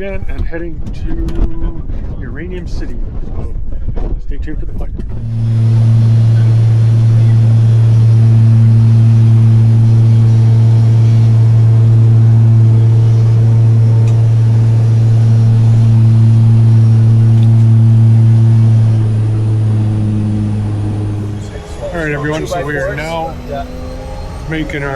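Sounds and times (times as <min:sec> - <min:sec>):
aircraft engines droning in cabin: 0:04.9 - 0:24.9.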